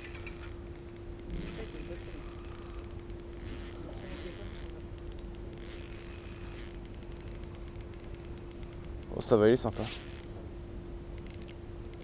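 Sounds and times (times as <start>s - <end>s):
fishing reel ticking: 0.0s - 10.3s, 11.2s - 12.0s.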